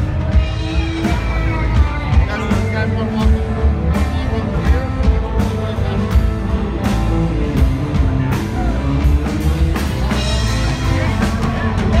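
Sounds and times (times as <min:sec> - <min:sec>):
rock music with drums: 0:00.0 - 0:12.0.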